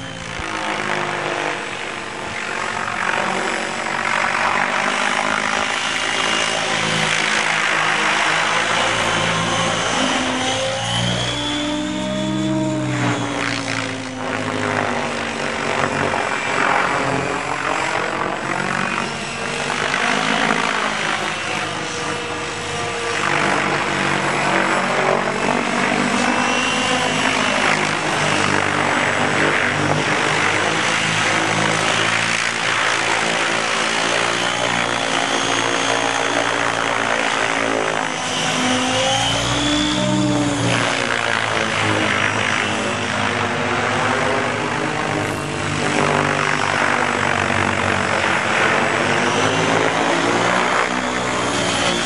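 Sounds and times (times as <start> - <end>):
model helicopter rotor: 0.0 - 52.0.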